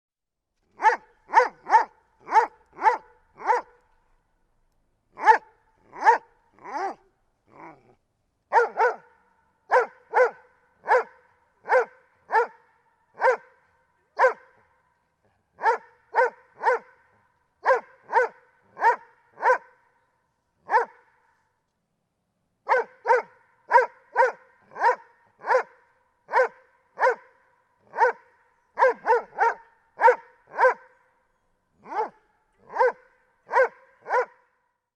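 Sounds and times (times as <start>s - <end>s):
dog barking: 0.8s - 3.8s, 5.2s - 7.9s, 8.5s - 14.8s, 15.5s - 19.9s, 20.6s - 21.3s, 22.6s - 31.1s, 31.8s - 34.6s.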